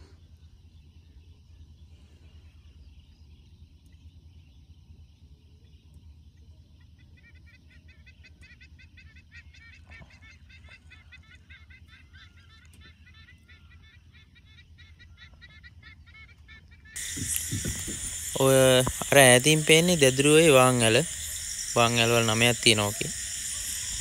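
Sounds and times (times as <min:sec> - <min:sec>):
repeated bird calls: 0:00.0 - 0:24.0.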